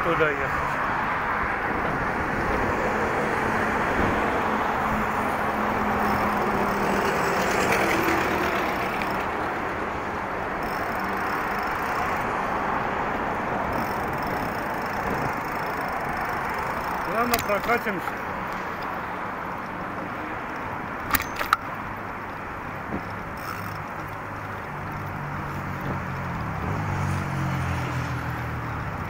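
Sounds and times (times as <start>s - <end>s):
city traffic passing: 0.0s - 29.0s.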